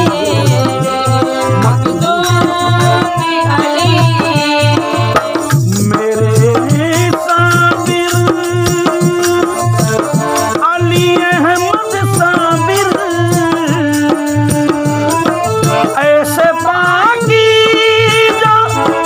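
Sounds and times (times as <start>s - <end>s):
hand drum beat: 0.0s - 19.0s
harmonium: 0.0s - 19.0s
man singing: 0.0s - 19.0s.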